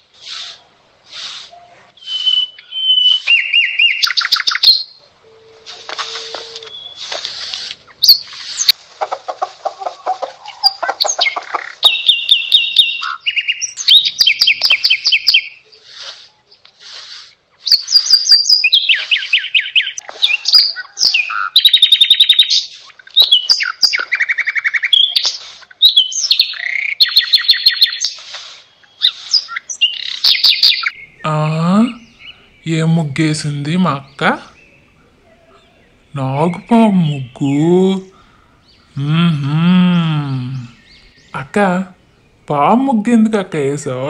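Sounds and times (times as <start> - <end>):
birds chirping and singing: 0.0 - 44.0.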